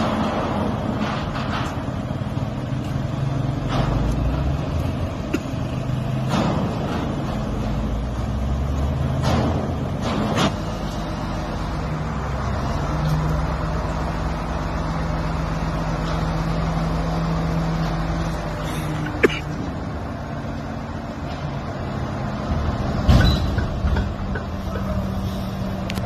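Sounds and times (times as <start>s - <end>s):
crane engine running: 0.0s - 26.0s.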